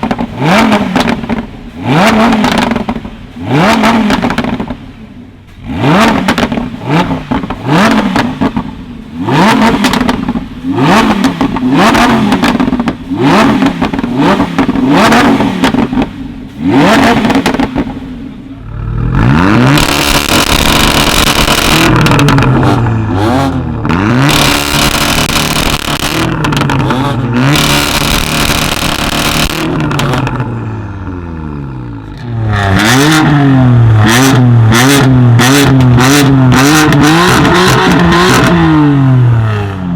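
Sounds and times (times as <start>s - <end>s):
exhaust crackles and pops: 0.0s - 30.7s, 32.0s - 39.5s
car engine revving: 0.0s - 39.9s.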